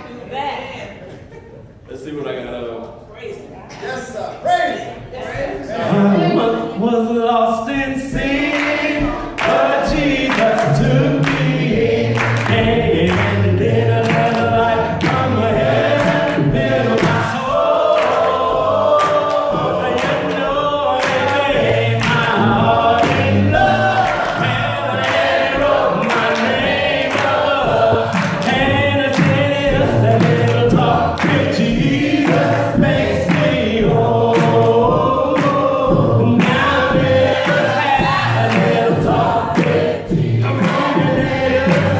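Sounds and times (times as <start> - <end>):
congregation singing gospel song: 4.8 - 41.9
sharp beats keeping time: 7.8 - 41.9.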